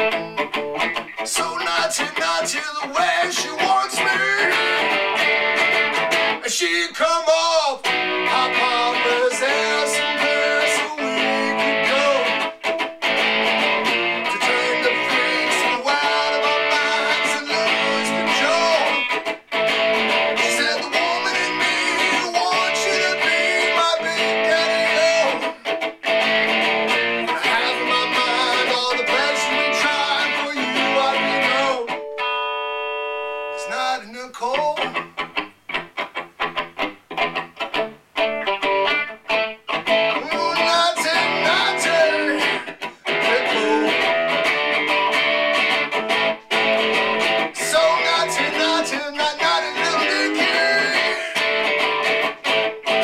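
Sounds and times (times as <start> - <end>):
solo electric guitar playing: 0.0 - 2.3, 3.3 - 6.4, 7.8 - 33.7, 34.8 - 53.0.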